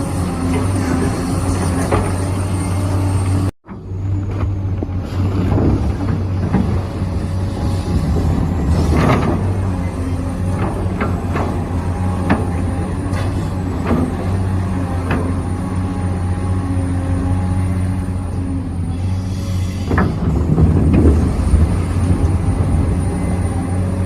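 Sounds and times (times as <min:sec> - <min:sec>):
model excavator motor whine: 0:00.0 - 0:24.0.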